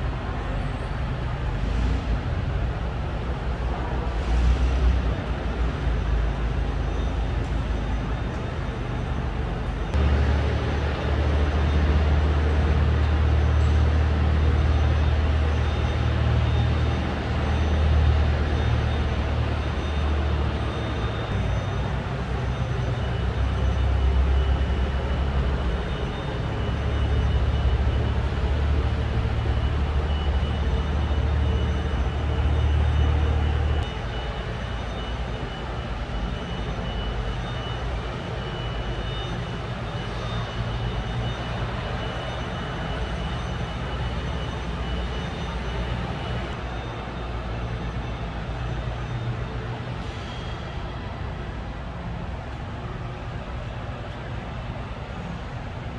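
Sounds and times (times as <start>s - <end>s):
factory hall rumble and hiss: 0.0s - 55.9s.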